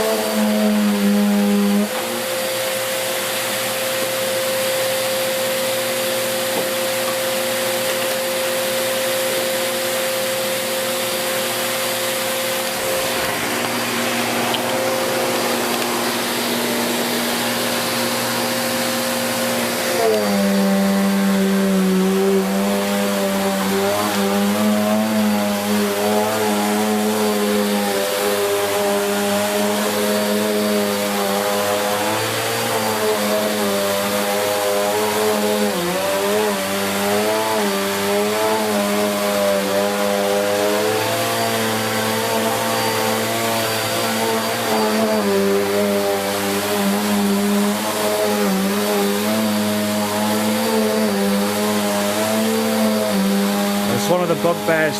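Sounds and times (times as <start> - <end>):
vacuum cleaner motor whine: 0.0 - 54.9.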